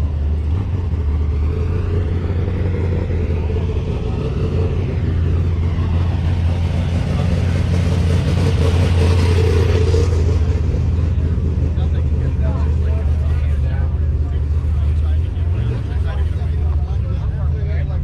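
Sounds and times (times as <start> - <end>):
car engine deep rumble: 0.0 - 18.0.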